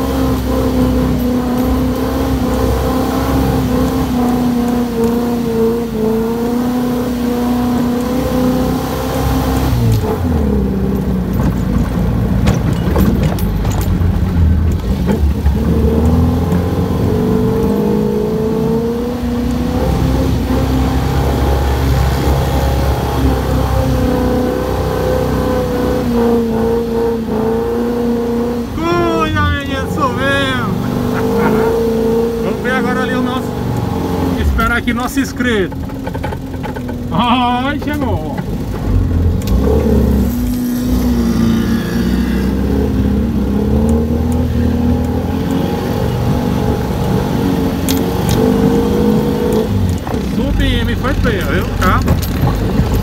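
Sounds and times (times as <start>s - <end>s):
dune buggy engine revving: 0.0s - 53.0s.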